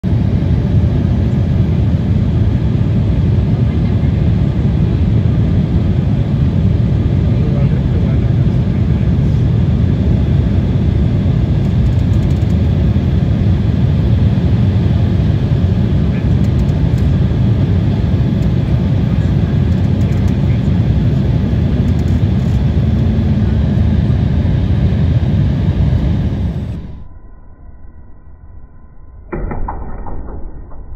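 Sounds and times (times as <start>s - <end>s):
airliner cabin rumble: 0.0s - 27.1s.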